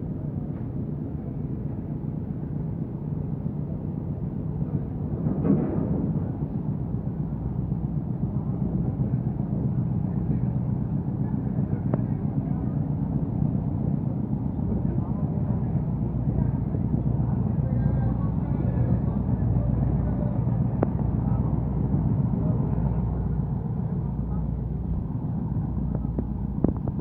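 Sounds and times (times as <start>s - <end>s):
boat engines droning: 0.0s - 27.0s.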